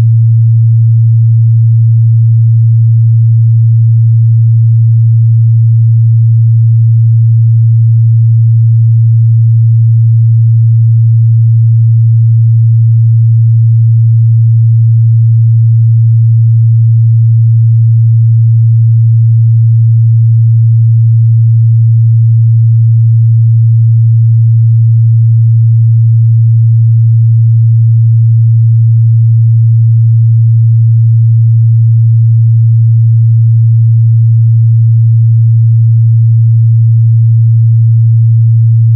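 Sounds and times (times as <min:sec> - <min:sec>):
low sine test tone: 0:00.0 - 0:38.9.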